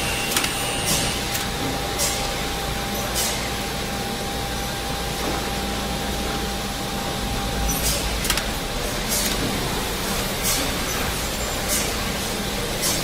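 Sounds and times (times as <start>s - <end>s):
mechanical rumble and hiss: 0.0s - 13.0s.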